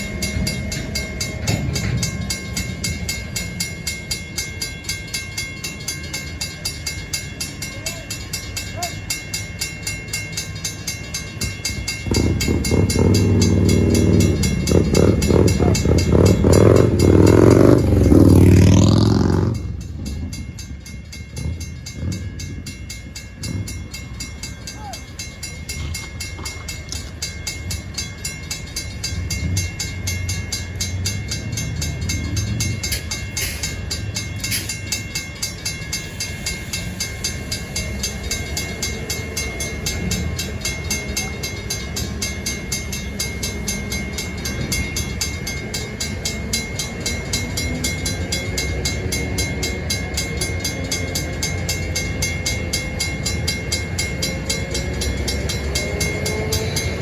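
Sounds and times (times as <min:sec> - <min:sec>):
train rumbling over rails: 0:00.0 - 0:57.0.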